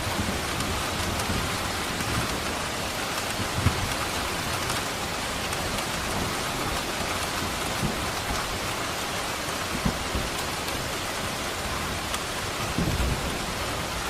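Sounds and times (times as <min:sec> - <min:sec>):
dense rain pattering: 0:00.0 - 0:14.0.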